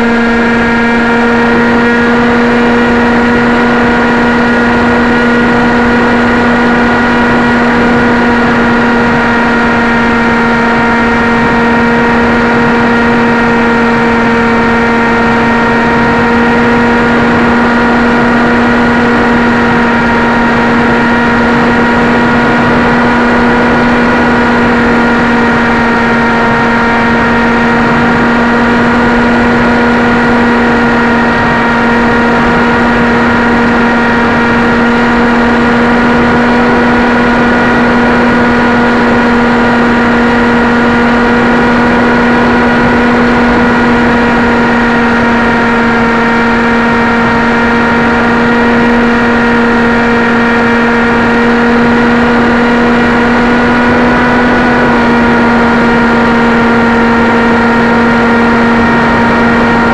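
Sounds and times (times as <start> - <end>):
electric motor and propeller hum: 0.0 - 59.9.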